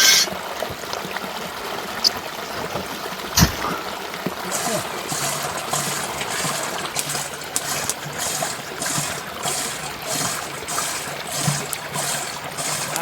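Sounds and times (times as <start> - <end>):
rushing water-like noise: 0.0 - 13.0.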